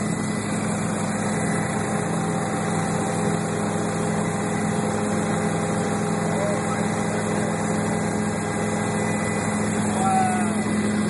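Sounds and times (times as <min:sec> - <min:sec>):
helicopter engine and rotors droning: 0:00.0 - 0:11.0.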